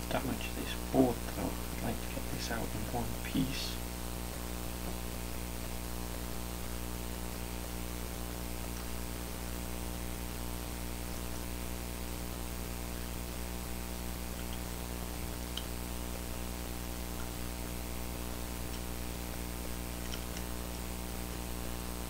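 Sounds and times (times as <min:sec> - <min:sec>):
background hiss: 0:00.0 - 0:22.0
electrical mains hum: 0:00.0 - 0:22.0
faint high-pitched whine: 0:00.0 - 0:22.0.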